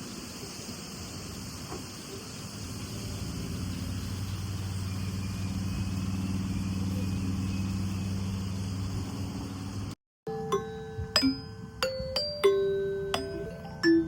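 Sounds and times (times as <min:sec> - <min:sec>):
engine humming: 0:02.5 - 0:14.0.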